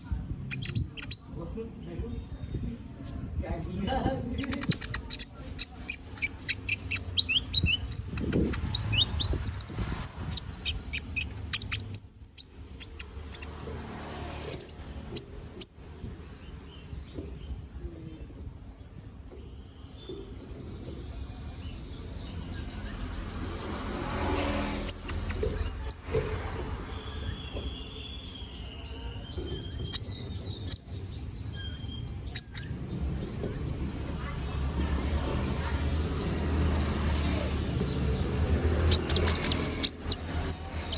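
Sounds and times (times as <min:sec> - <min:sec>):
bird chirping and clicking: 0:00.4 - 0:01.4, 0:04.3 - 0:17.6, 0:18.2 - 0:26.2, 0:26.9 - 0:40.9.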